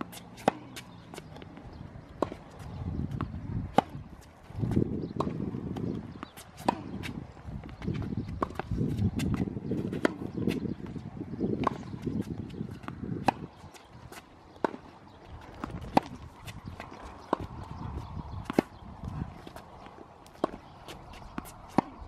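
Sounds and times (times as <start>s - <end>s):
tennis balls struck and bouncing: 0.0s - 22.0s.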